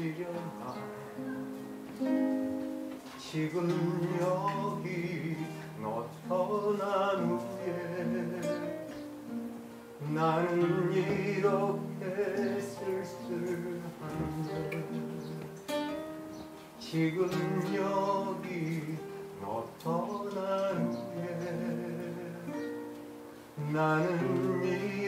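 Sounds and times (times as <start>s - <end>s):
man singing into a microphone: 0.0s - 1.4s, 3.1s - 9.1s, 10.0s - 15.6s, 16.7s - 25.0s
acoustic guitar: 0.0s - 25.0s.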